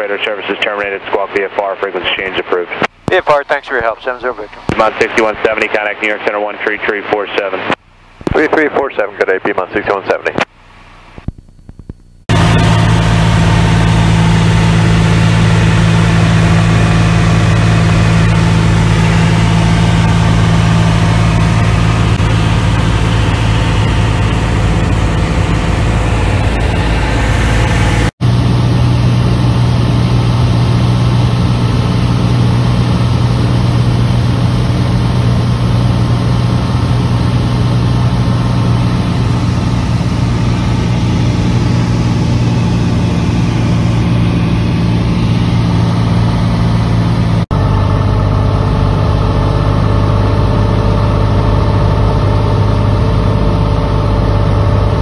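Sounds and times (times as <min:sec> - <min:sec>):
propeller plane engine droning: 0:00.0 - 0:08.2, 0:12.3 - 0:55.0.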